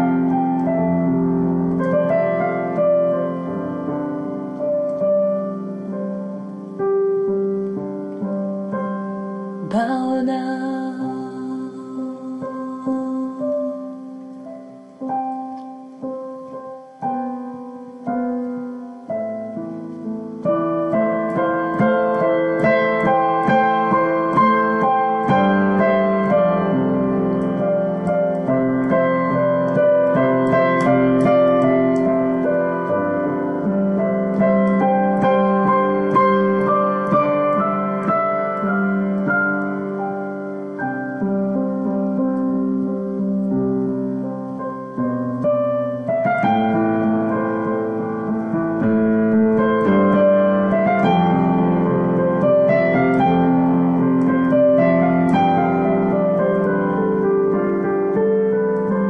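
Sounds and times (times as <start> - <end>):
solo piano: 0.0 - 59.0.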